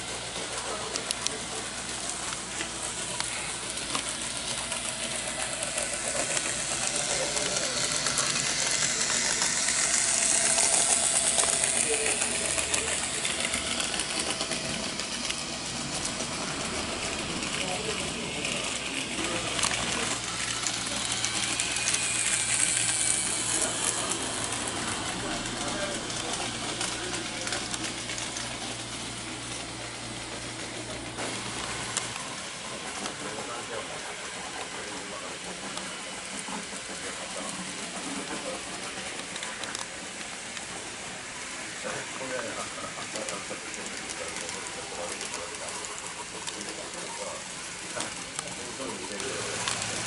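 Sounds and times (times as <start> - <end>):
model train wheels clicking: 0.0 - 50.0
motor hum: 0.0 - 50.0.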